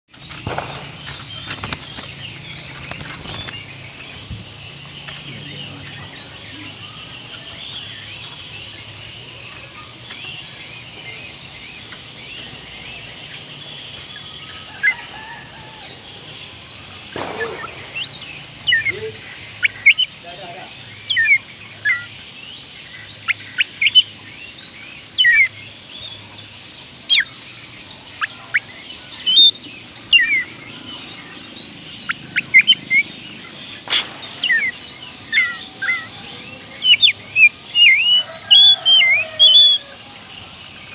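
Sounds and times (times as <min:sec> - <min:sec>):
bird singing: 0:00.1 - 0:40.9.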